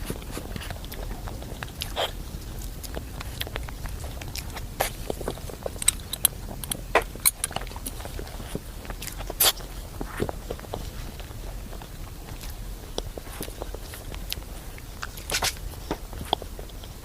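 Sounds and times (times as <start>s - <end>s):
wet chewing and mouth sounds: 0.0s - 17.0s.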